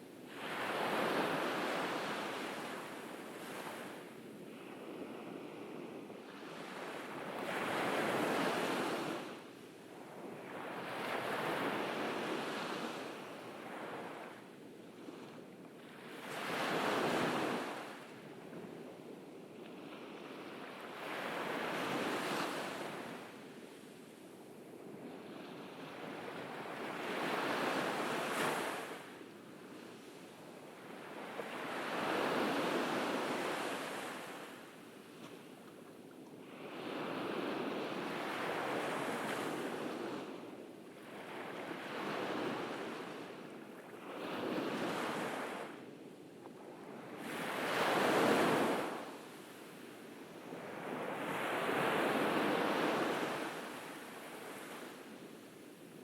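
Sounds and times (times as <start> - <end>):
ocean waves breaking on beach: 0.0 - 18.3, 19.7 - 46.0, 46.6 - 56.0.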